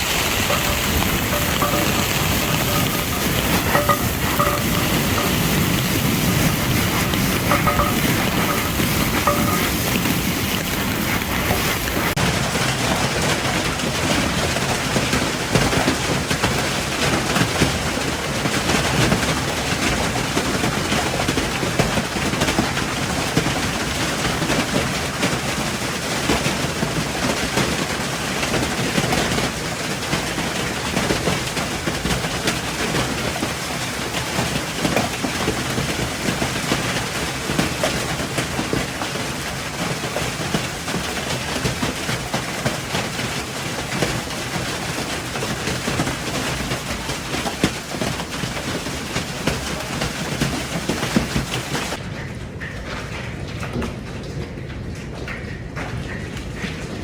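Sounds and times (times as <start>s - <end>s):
hail and heavy rain pelting: 0.0s - 52.0s.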